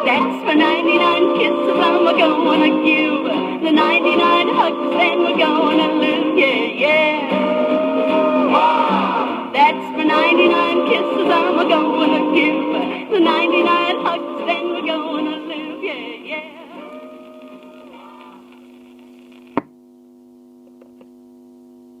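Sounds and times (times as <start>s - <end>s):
pop song from record: 0.0s - 18.7s.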